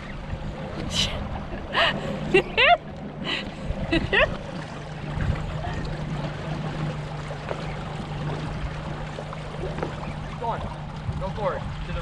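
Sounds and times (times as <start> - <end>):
boat engine humming: 0.0 - 12.0
water lapping on hull: 0.0 - 12.0.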